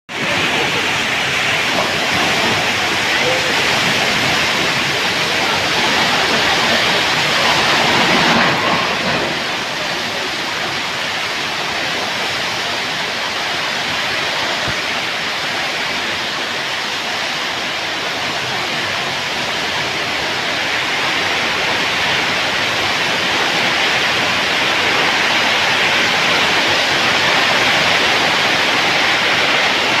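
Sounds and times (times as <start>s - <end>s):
heavy rain pouring: 0.1s - 30.0s.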